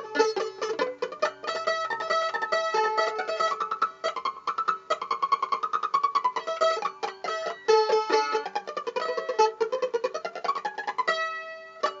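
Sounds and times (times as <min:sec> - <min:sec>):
plucked string instrument melody: 0:00.0 - 0:12.0.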